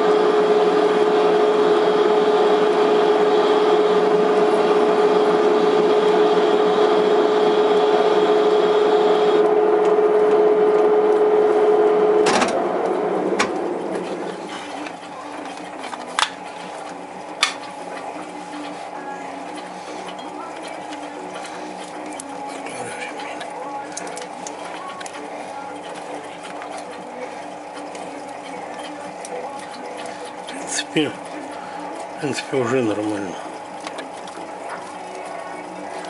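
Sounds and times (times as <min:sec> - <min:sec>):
lathe running down: 0:00.0 - 0:36.0
metal lathe humming: 0:00.0 - 0:36.0.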